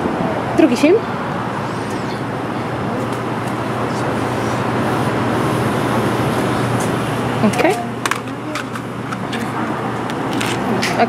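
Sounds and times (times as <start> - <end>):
kiosk mechanism whirring: 0.6 - 11.0.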